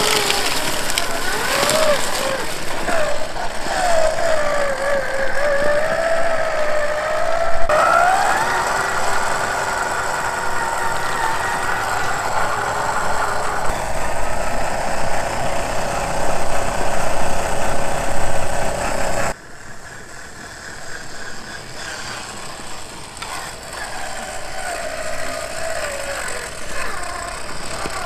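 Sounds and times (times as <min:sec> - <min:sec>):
rc truck electric motor whining: 0:00.0 - 0:28.0.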